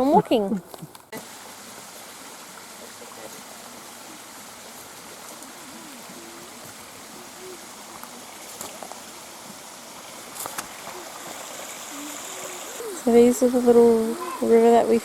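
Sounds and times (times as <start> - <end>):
river water rushing: 1.2 - 15.0.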